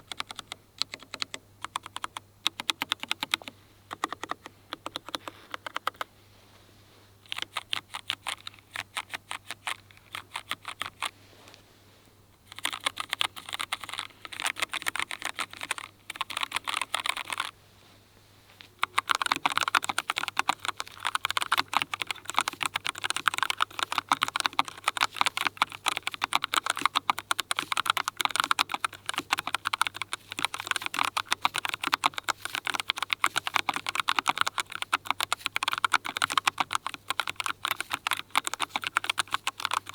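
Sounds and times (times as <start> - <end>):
typing on mechanical keyboard: 0.0 - 6.0, 12.5 - 17.5, 18.8 - 39.9.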